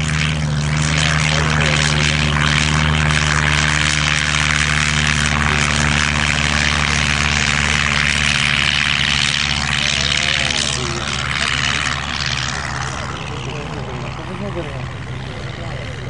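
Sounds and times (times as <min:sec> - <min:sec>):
propeller hiss: 0:00.0 - 0:16.0
propeller plane engine droning: 0:00.0 - 0:16.0.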